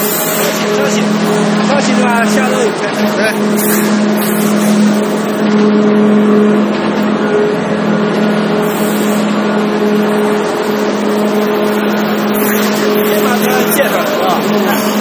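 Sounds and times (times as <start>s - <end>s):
clay rushing and rattling on conveyors: 0.0s - 15.0s
machinery motor hum: 0.0s - 15.0s.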